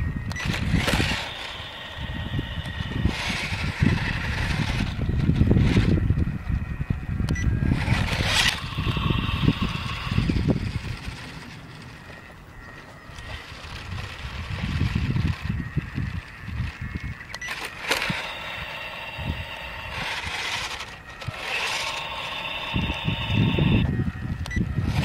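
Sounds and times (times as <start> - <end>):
small electric motor whining: 0.0 - 25.0.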